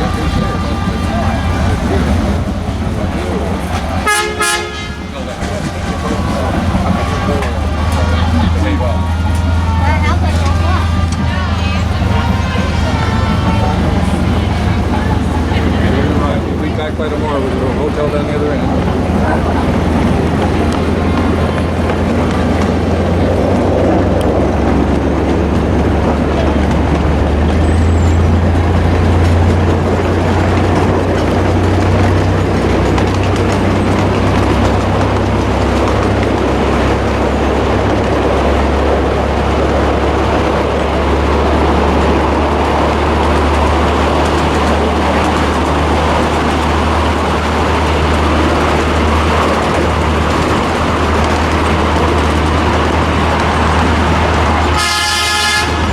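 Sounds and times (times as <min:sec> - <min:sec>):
rail noise: 0:00.0 - 0:55.9
train running: 0:00.0 - 0:55.9.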